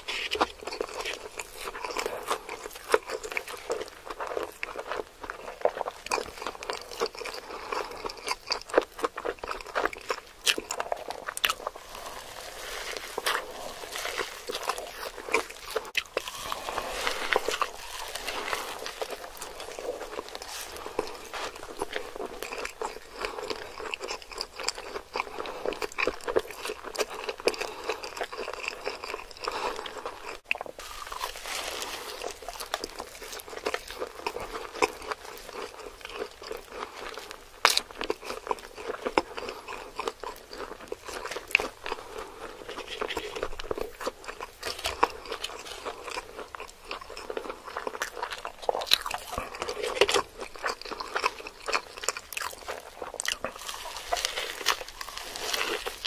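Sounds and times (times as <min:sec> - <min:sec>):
crunchy chewing of burger: 0:00.0 - 0:56.0.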